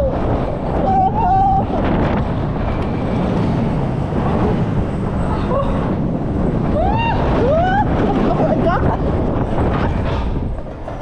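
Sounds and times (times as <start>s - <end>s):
roller coaster wheels rumbling: 0.0s - 11.0s
rushing wind: 0.0s - 11.0s.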